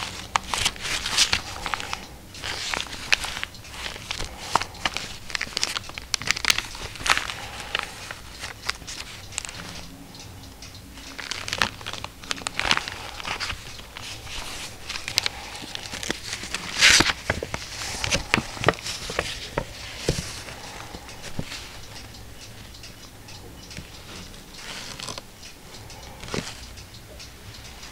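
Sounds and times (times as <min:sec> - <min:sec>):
old book pages rustling: 0:00.0 - 0:09.8, 0:11.0 - 0:22.7, 0:23.8 - 0:25.3, 0:26.2 - 0:26.6.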